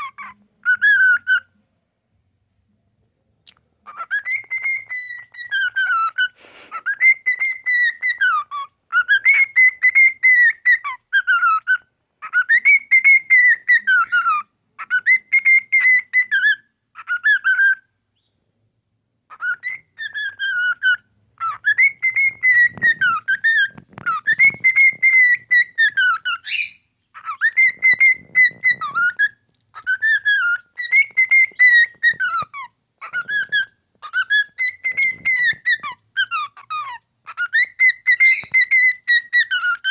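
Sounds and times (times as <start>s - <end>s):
cockatiel whistling song: 0.0s - 1.6s, 3.9s - 18.4s, 19.3s - 39.9s.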